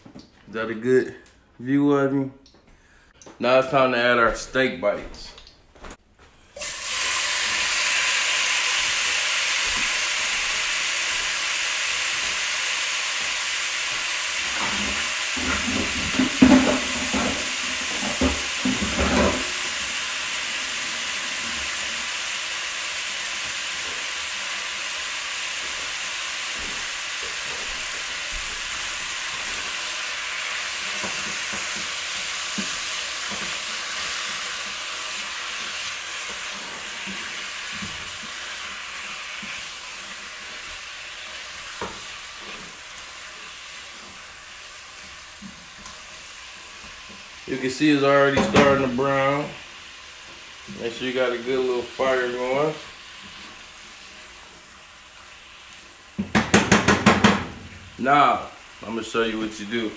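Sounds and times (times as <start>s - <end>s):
meat sizzling in a pan: 6.6s - 59.9s.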